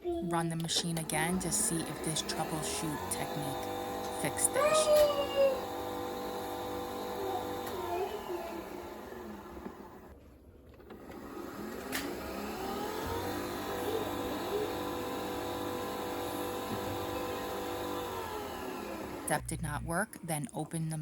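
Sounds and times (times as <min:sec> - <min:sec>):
coffee machine motor whine: 0:00.5 - 0:10.1, 0:10.9 - 0:19.8.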